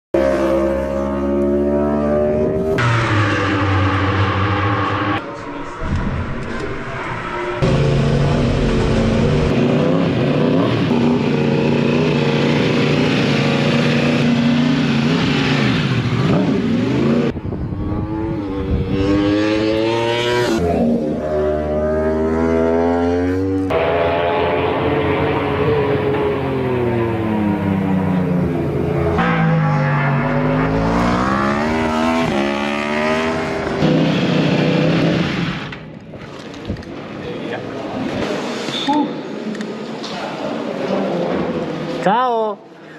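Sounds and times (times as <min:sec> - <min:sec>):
motorcycle engine revving: 0:00.2 - 0:35.9.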